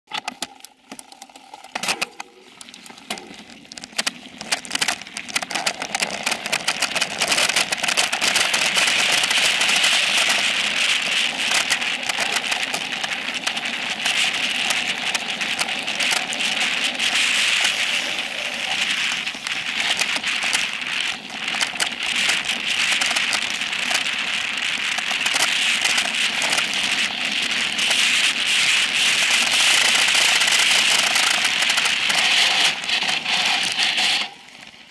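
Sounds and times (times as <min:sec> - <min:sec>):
bike rattling over bumps: 0:01.0 - 0:34.9.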